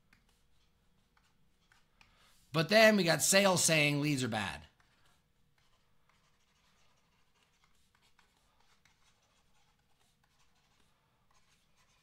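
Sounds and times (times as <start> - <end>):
stylus tapping and scratching: 0.0 - 12.0.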